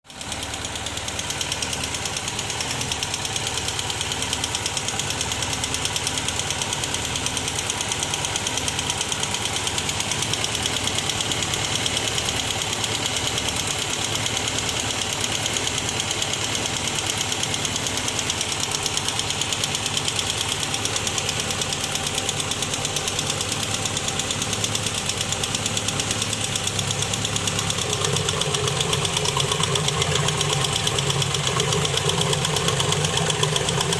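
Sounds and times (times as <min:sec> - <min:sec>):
car engine with even knock: 0:00.1 - 0:33.9.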